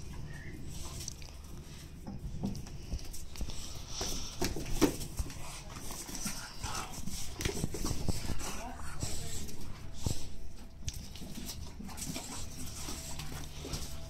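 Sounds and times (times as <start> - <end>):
dog paws scrabbling on paving: 0.2 - 14.0.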